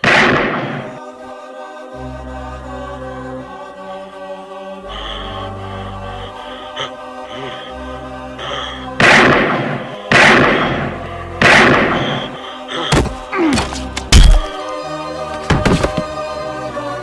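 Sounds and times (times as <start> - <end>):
dark background music: 0.0 - 17.0.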